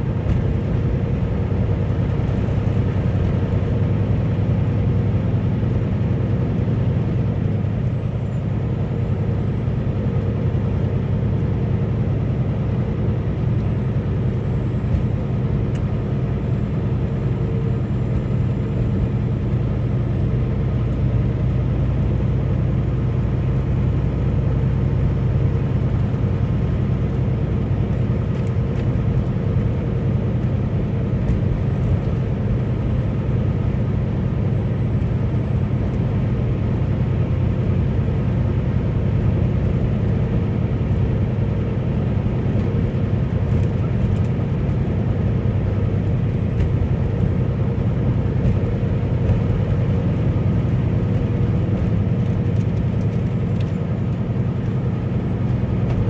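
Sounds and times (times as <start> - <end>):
road noise: 0.0 - 56.0
truck engine drone: 0.0 - 56.0.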